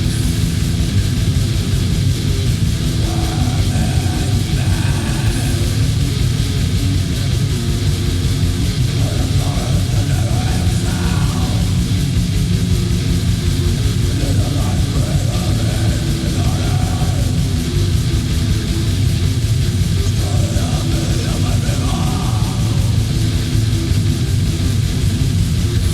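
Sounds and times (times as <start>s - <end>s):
distorted guitars: 0.0s - 25.9s
fast dense drumming: 0.0s - 25.9s.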